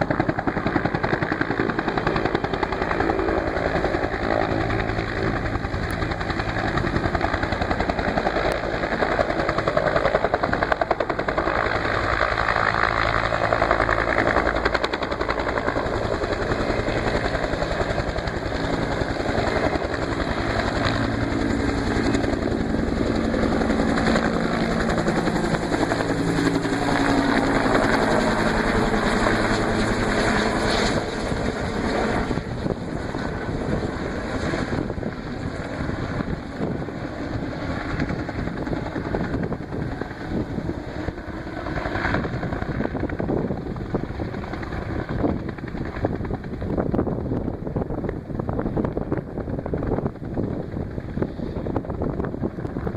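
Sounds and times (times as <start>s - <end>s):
helicopter rotor chopping: 0.0s - 52.9s.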